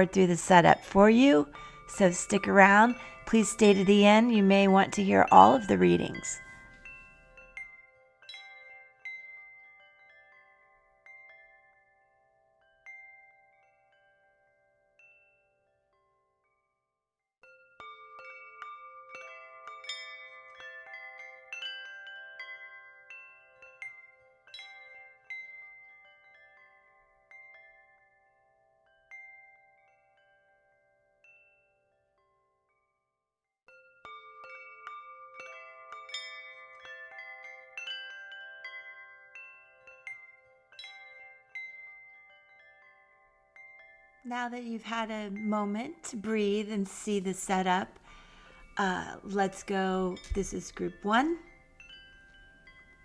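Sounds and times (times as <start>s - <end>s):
chime-like bell notes ringing: 0.0s - 16.6s, 17.4s - 32.8s, 33.7s - 46.2s, 48.0s - 53.0s.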